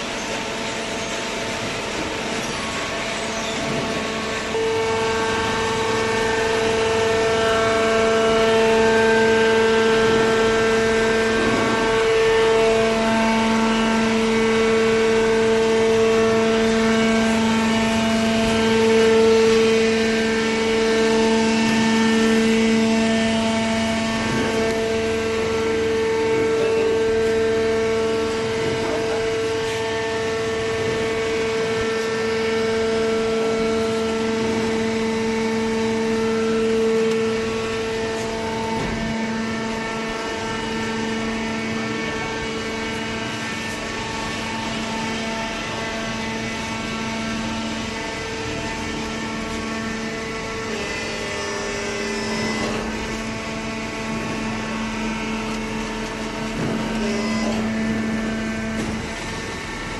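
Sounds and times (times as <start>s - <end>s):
baler motor and pump whine: 0.0s - 59.9s
lower machine tone: 0.0s - 59.9s.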